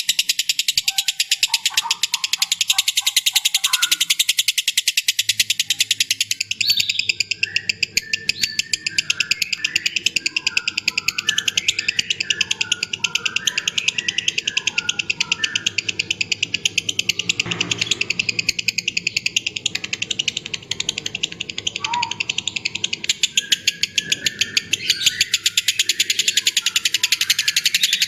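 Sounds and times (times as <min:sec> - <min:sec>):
lovebird chattering: 0:00.0 - 0:28.0
lower varied chirping: 0:00.0 - 0:28.0.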